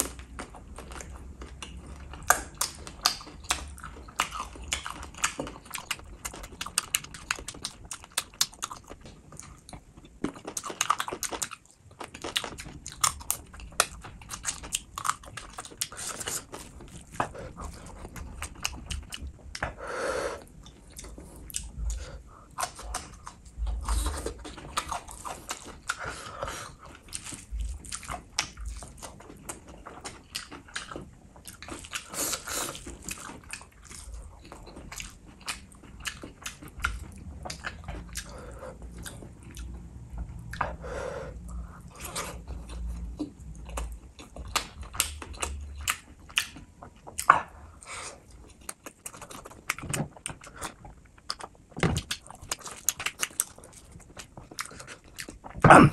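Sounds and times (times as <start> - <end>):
person chewing and biting: 0.0 - 19.8, 20.4 - 40.8, 41.8 - 55.9.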